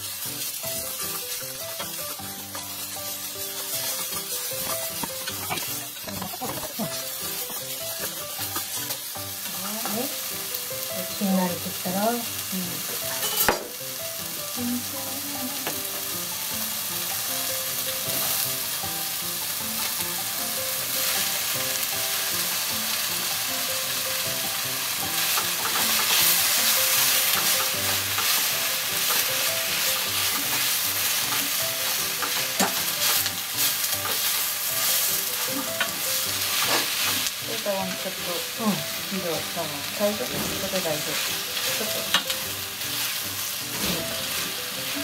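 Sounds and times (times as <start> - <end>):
meat sizzling in a pot: 0.0 - 45.0.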